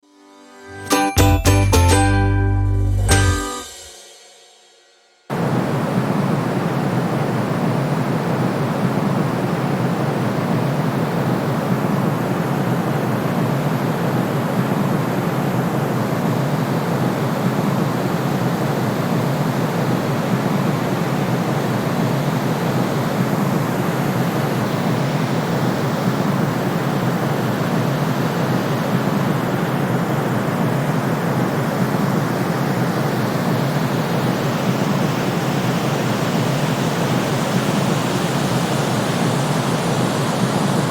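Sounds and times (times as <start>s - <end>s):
white noise hiss: 5.3s - 40.9s.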